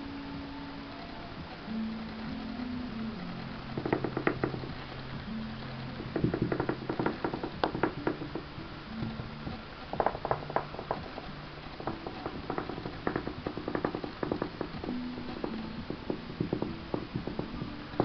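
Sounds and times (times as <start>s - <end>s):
faint music with low notes: 0.0s - 18.0s.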